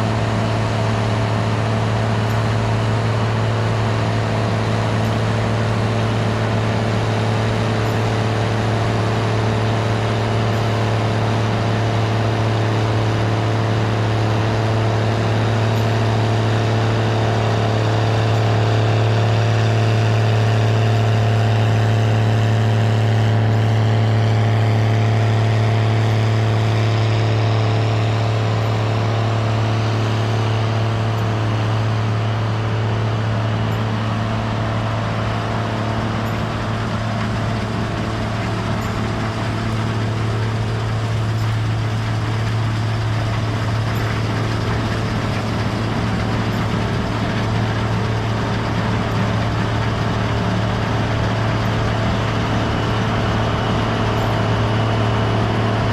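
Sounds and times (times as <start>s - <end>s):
combine engine drone: 0.0s - 55.9s
machinery noise: 0.0s - 55.9s.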